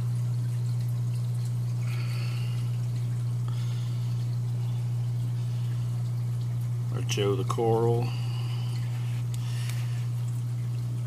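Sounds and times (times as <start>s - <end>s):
low equipment hum: 0.0s - 11.0s
water trickling and splashing: 0.0s - 11.0s.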